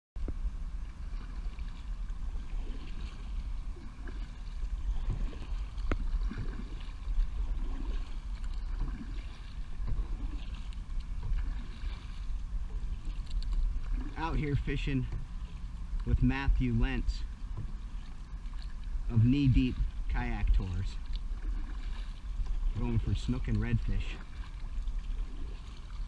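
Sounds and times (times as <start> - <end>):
paddle strokes in water: 0.2 - 26.0.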